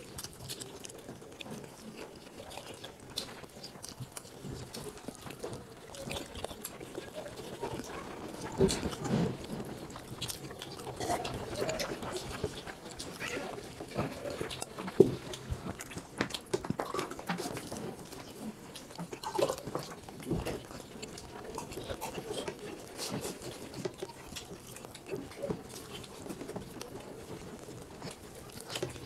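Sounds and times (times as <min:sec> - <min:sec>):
chewing and lip smacking: 0:00.0 - 0:29.0.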